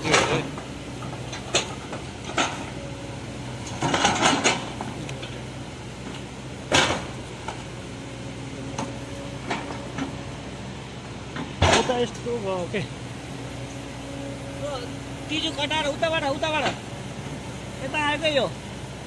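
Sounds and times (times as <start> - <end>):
diesel engine and hydraulics running: 0.0 - 19.0.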